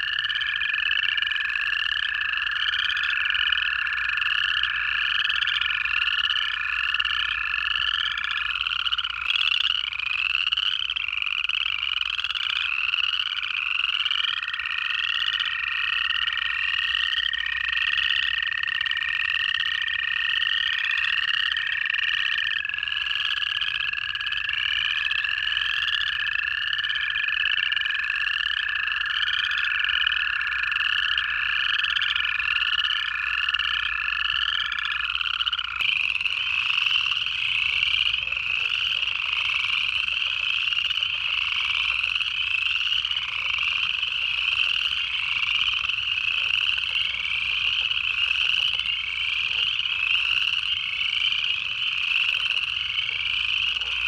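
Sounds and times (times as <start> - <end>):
frogs trilling in chorus: 0.0 - 54.0
toad trills: 0.0 - 54.0.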